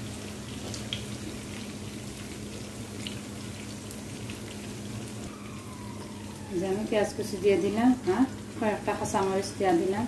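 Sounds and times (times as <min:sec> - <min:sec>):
onion sizzling in oil: 0:00.0 - 0:10.0.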